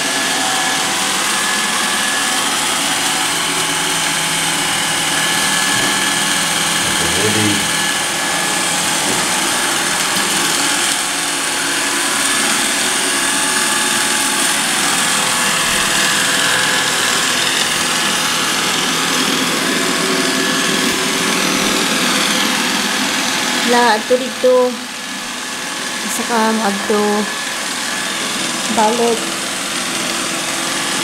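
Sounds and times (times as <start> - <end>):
robot vacuum whirring: 0.8 - 31.0.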